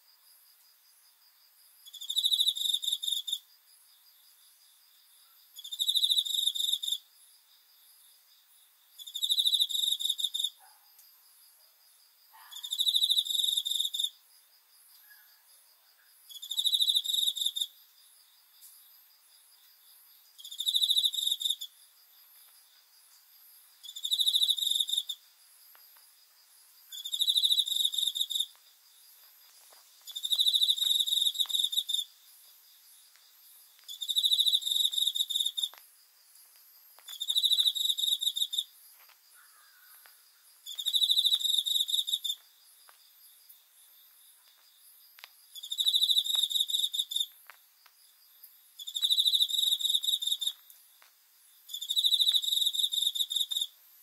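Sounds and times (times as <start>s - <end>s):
cricket trilling: 1.3s - 54.0s.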